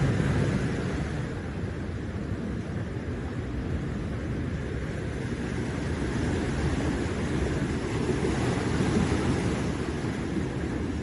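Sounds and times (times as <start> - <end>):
sea surf on rocky shore: 0.0 - 11.0
wind buffeting microphone: 0.0 - 11.0.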